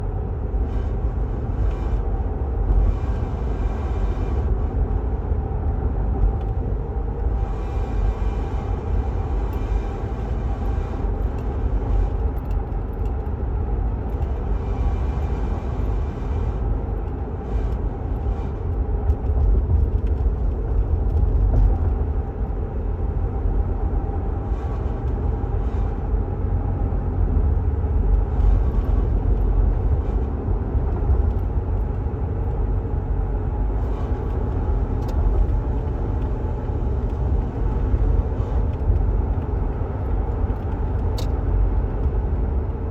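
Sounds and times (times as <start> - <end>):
road and engine rumble: 0.0 - 42.9.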